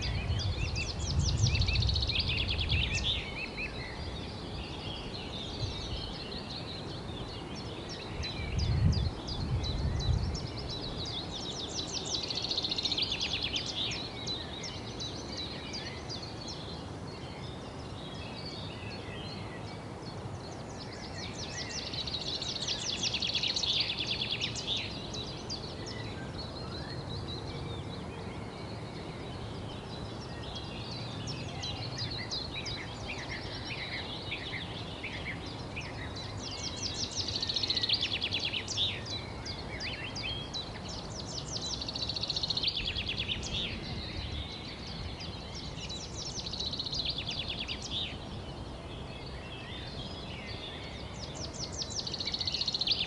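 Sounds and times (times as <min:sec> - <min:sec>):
outdoor background hiss: 0:00.0 - 0:53.0
songbirds chirping: 0:00.0 - 0:53.0.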